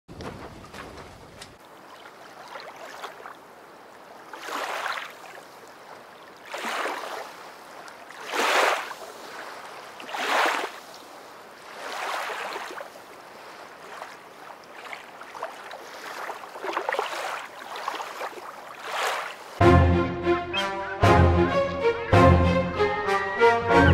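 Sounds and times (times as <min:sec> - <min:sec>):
water splashing along boat hull: 0:00.1 - 0:19.6.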